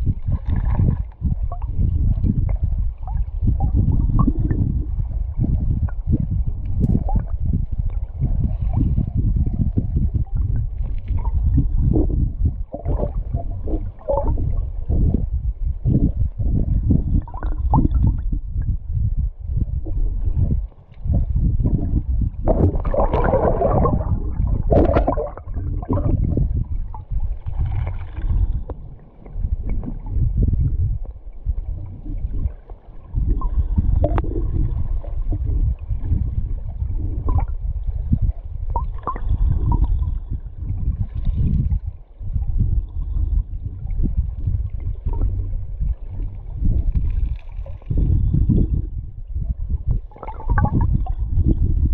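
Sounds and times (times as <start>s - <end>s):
underwater river rumble: 0.0s - 51.9s.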